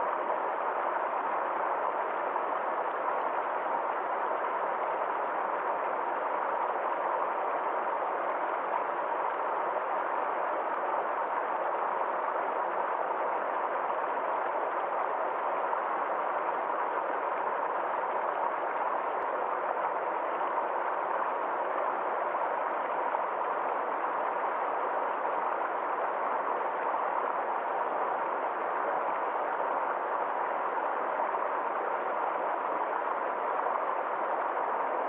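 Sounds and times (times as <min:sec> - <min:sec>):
stream flowing: 0:00.0 - 0:35.0.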